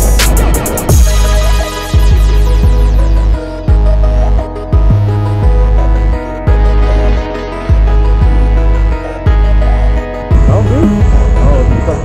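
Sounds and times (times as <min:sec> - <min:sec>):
music with deep pulsing bass: 0:00.0 - 0:12.0.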